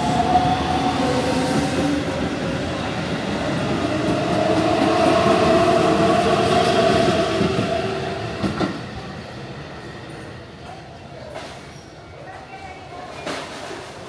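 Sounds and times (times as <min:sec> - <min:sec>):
electric train rumbling: 0:00.0 - 0:12.1.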